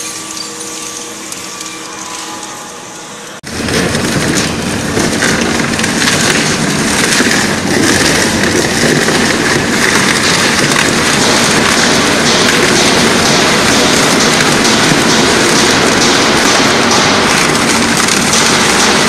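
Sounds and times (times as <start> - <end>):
shredder crunching a board: 3.4 - 19.0.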